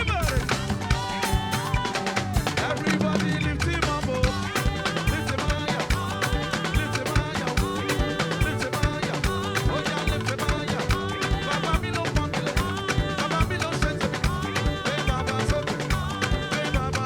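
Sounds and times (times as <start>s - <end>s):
live band playing praise music: 0.0s - 17.0s
quick drum beat: 0.0s - 17.0s.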